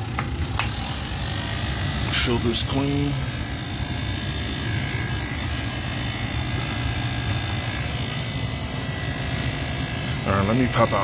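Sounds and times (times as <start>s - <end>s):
gas furnace humming: 0.0s - 11.0s.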